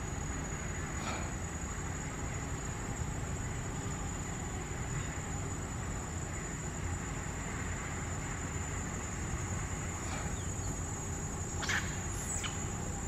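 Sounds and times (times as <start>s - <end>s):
low outdoor rumble: 0.0s - 13.0s
thin high-pitched whine: 0.0s - 13.0s.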